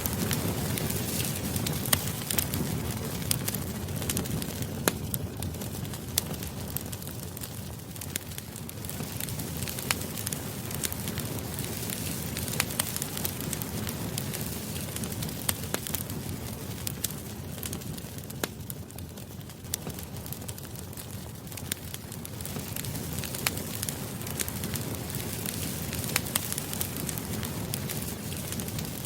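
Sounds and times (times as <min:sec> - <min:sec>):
fire crackles and pops: 0:00.0 - 0:29.0
fire low rumble: 0:00.0 - 0:29.0.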